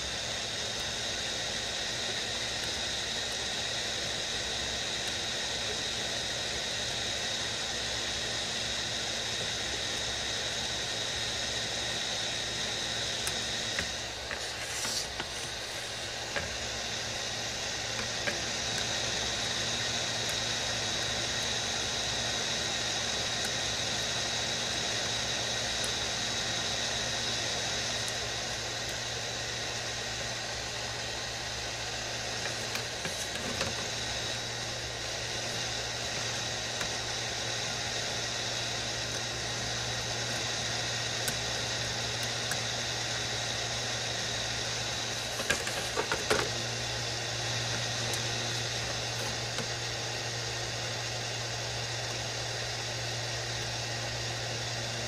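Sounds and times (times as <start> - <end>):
heat gun hissing and whining: 0.0 - 55.0.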